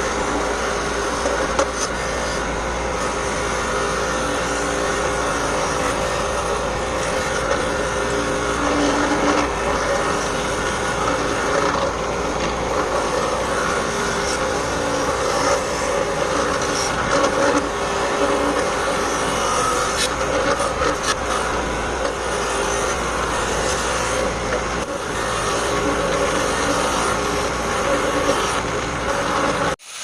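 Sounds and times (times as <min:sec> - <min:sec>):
power tool grinding metal: 0:00.0 - 0:30.0.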